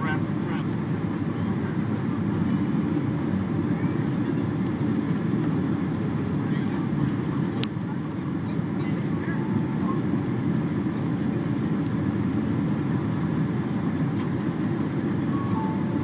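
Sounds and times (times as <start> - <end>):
airliner cabin engine and airflow noise: 0.0 - 16.0.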